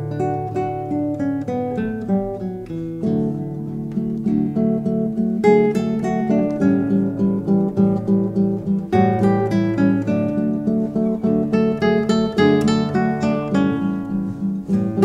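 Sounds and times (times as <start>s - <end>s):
classical guitar duet: 0.0s - 15.0s.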